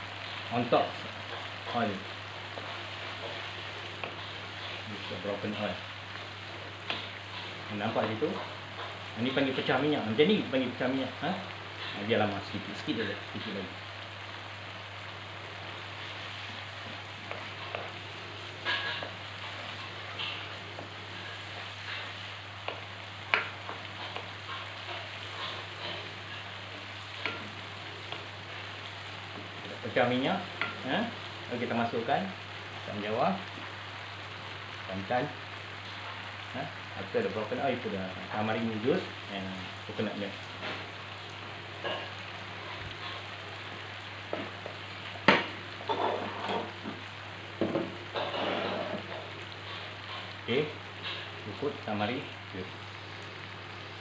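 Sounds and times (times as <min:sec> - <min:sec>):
paste sizzling in a wok: 0:00.0 - 0:54.0.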